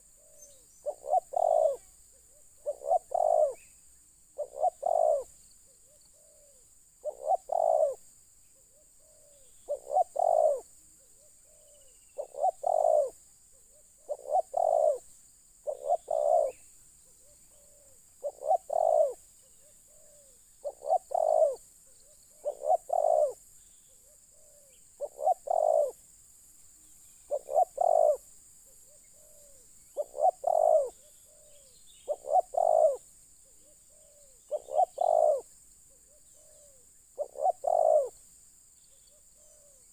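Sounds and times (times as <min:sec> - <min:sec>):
dove cooing: 0:00.0 - 0:03.7, 0:04.4 - 0:08.0, 0:08.6 - 0:26.0, 0:27.3 - 0:38.2, 0:39.1 - 0:39.9.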